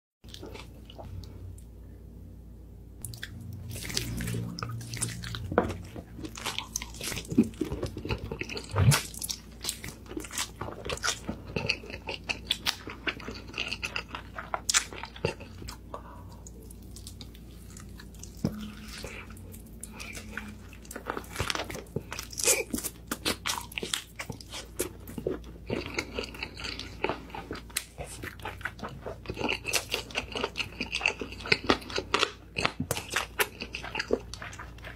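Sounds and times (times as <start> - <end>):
crunching and wet chewing: 3.0 - 34.9.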